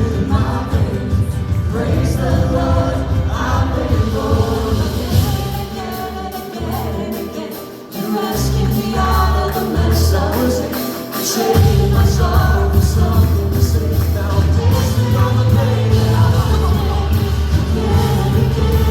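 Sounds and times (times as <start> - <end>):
band and singers performing: 0.0 - 18.9.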